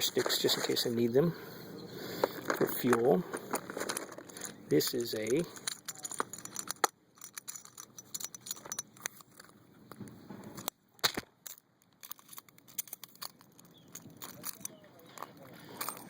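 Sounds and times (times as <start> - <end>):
gear clicks and rattles: 2.0 - 10.7, 11.4 - 16.0.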